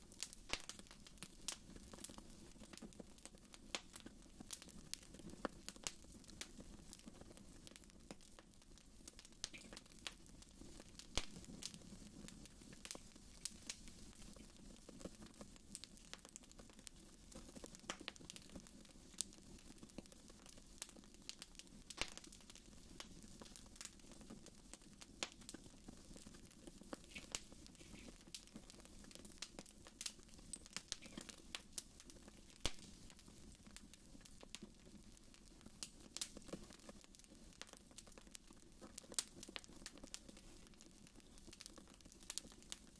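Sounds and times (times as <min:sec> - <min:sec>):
fire crackles and pops: 0:00.0 - 0:42.9
low rumble of flame: 0:00.0 - 0:42.9.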